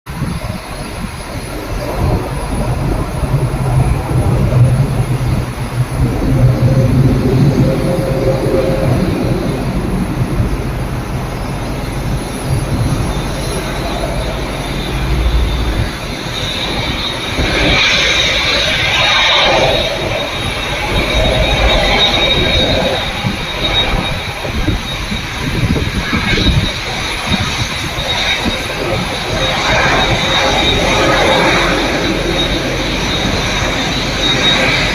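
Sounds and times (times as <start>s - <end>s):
jet engines idling: 0.1s - 34.9s.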